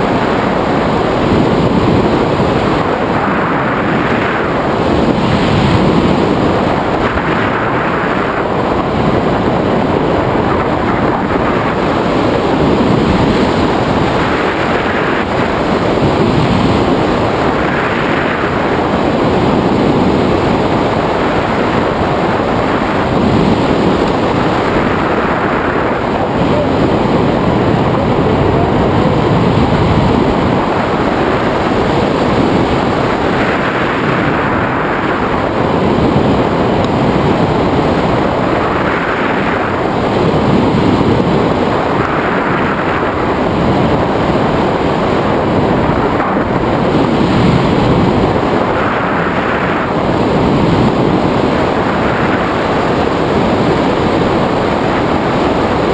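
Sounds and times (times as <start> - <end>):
wind roaring over microphone: 0.0 - 55.9.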